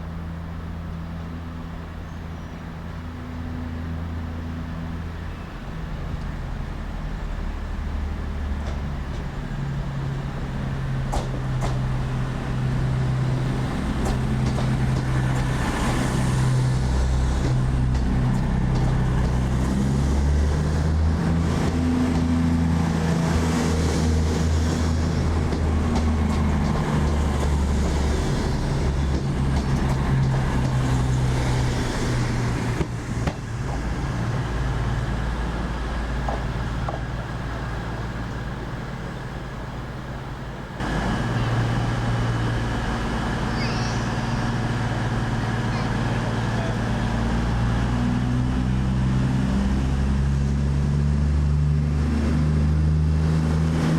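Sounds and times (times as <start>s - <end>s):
train engine hum: 0.0s - 53.9s.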